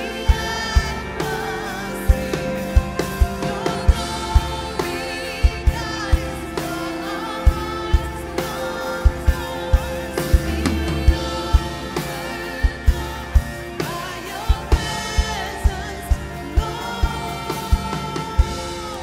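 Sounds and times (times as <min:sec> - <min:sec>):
band playing worship music: 0:00.0 - 0:19.0
man singing: 0:00.0 - 0:19.0.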